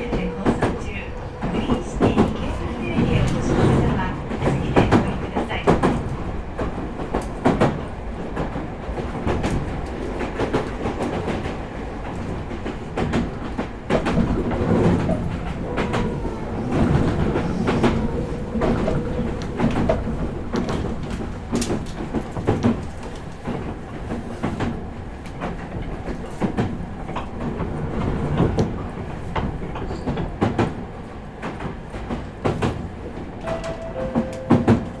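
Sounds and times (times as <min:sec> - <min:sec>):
train wheels rumbling on rail: 0:00.0 - 0:35.0
wheels clicking over rail joints: 0:00.0 - 0:35.0.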